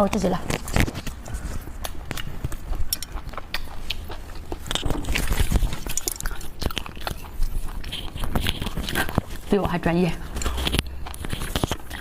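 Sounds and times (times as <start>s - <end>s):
person chewing wetly: 0.5s - 12.0s.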